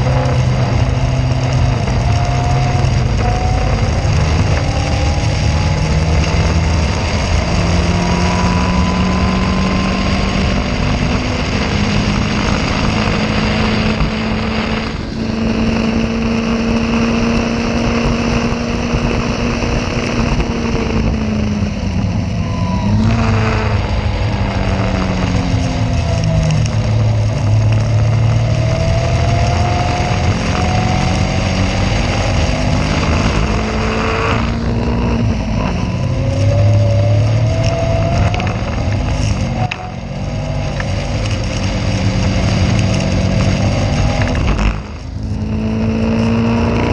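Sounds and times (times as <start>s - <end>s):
race car engine at speed: 0.0s - 46.9s
steady rush of noise: 0.0s - 46.9s.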